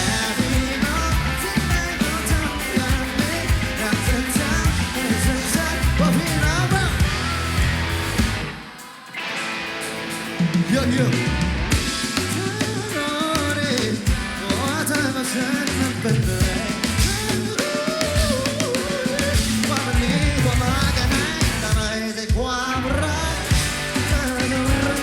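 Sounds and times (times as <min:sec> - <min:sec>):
person singing: 0:00.0 - 0:07.7, 0:10.4 - 0:25.0
bass: 0:00.0 - 0:08.6, 0:09.8 - 0:22.0, 0:22.6 - 0:25.0
steady drum beat: 0:00.0 - 0:09.0, 0:09.8 - 0:22.6, 0:23.5 - 0:25.0
guitar: 0:00.0 - 0:25.0.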